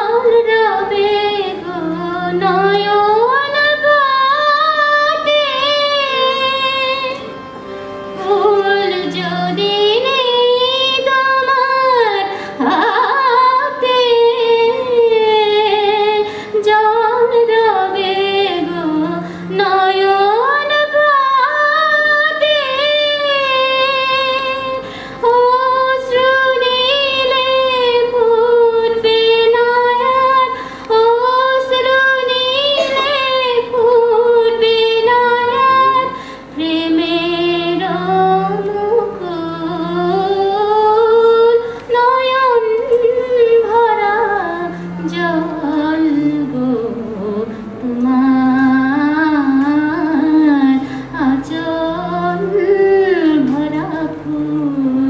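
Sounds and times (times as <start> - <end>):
woman singing: 0.0 - 7.3, 8.2 - 55.0
harmonium: 0.0 - 55.0.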